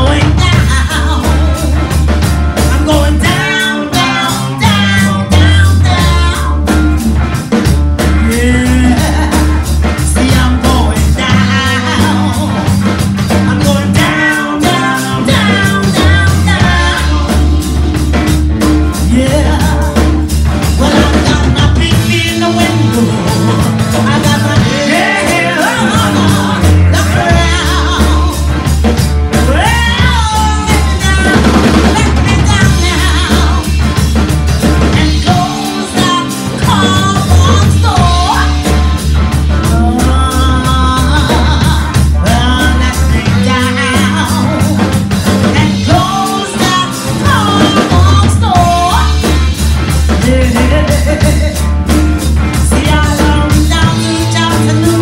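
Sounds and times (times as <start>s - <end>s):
bass guitar pulsing: 0.0s - 55.0s
drum kit: 0.0s - 55.0s
electric guitar: 0.0s - 55.0s
woman singing: 0.0s - 55.0s.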